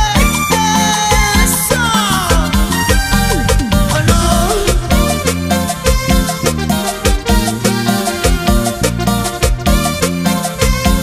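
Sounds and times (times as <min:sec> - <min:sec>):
latin dance band music: 0:00.0 - 0:11.0.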